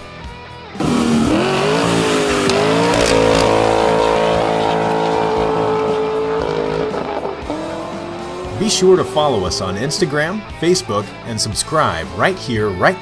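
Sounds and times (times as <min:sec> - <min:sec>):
car engine revving: 0:00.8 - 0:12.2.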